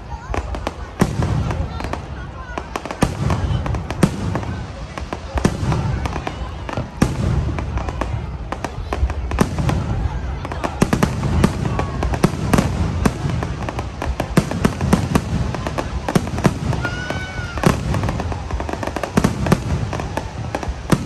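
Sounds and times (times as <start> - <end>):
fireworks bangs and crackling pops: 0.0 - 21.0.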